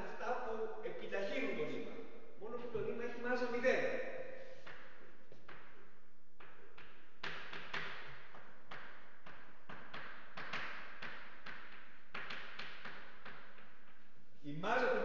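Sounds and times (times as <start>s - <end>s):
light taps echoing in a hall: 0.0s - 15.0s.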